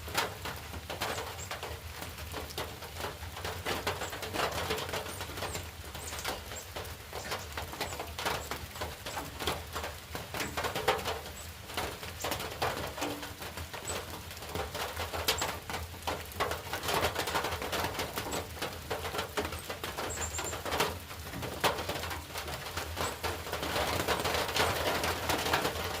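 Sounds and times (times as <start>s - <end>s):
rain falling: 0.0s - 26.0s
raindrops tapping: 0.0s - 26.0s.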